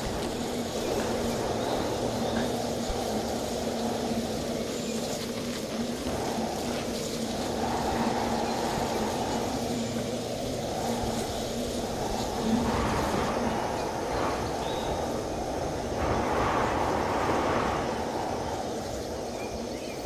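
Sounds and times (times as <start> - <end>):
strong wind rushing: 0.0 - 20.0.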